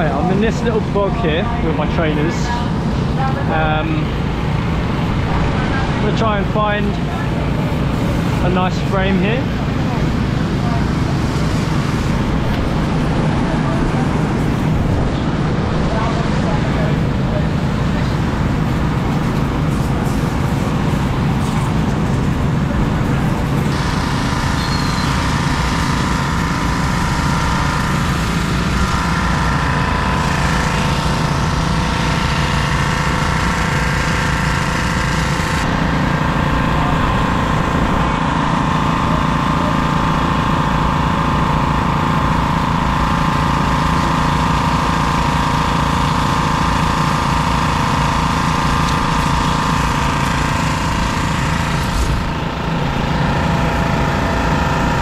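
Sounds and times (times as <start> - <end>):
pressure washer motors humming: 0.0 - 55.0.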